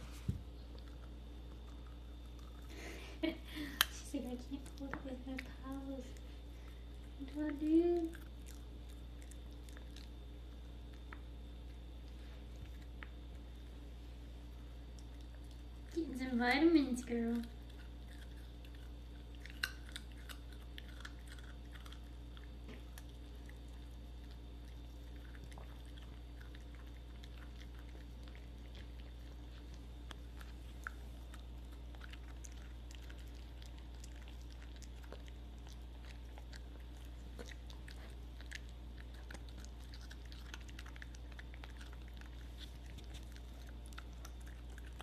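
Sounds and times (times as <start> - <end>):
low steady hum: 0.0 - 45.0
puppy chewing food: 0.0 - 45.0.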